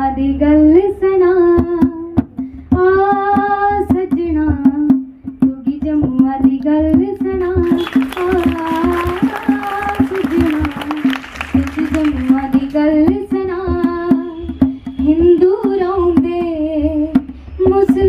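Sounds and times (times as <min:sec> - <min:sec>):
woman singing folk song: 0:00.0 - 0:14.4, 0:15.0 - 0:18.0
sharp percussive taps: 0:01.6 - 0:16.4.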